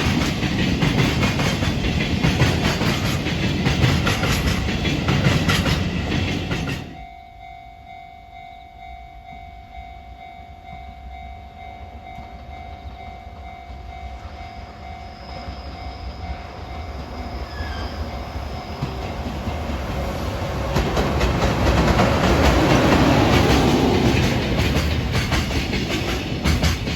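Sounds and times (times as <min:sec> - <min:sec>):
freight train wagons rattling: 0:00.0 - 0:07.0, 0:11.8 - 0:26.9.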